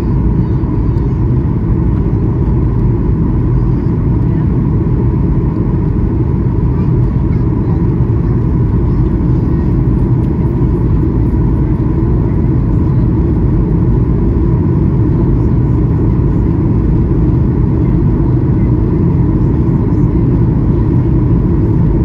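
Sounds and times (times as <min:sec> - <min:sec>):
airflow over fuselage: 0:00.0 - 0:22.0
airplane cabin engine rumble: 0:00.0 - 0:22.0.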